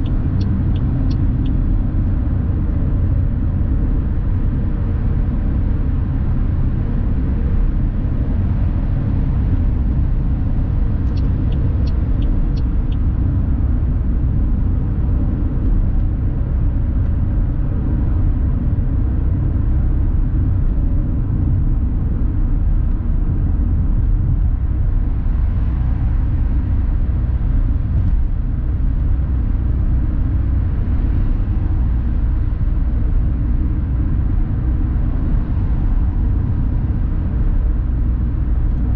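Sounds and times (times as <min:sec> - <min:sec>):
car cabin road and engine rumble: 0:00.0 - 0:38.9.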